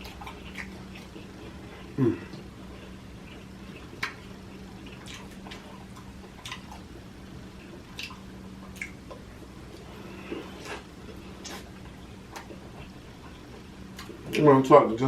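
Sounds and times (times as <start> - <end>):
chewing and wet mouth smacks: 0.0 - 6.9, 7.6 - 14.4
faint steady hum: 0.0 - 15.0.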